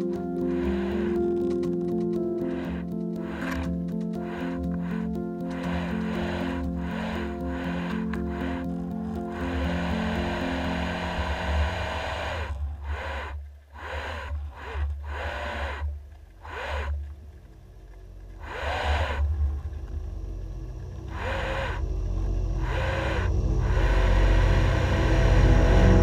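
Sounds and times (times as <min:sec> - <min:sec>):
steady low hum: 0:00.0 - 0:26.0
underwater thruster motor whine: 0:00.0 - 0:26.0.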